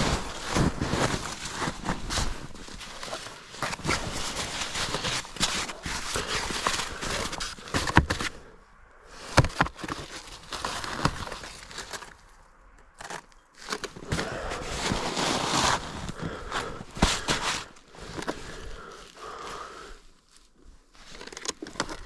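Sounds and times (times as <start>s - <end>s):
snow brushing and scraping: 0.0s - 8.5s, 9.1s - 12.3s, 13.0s - 22.0s.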